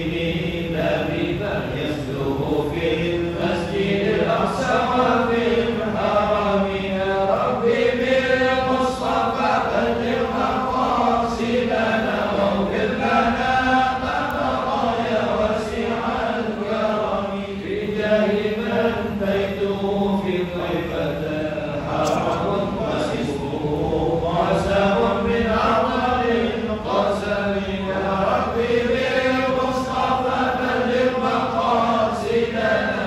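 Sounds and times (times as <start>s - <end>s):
congregation chanting in unison: 0.0s - 33.0s.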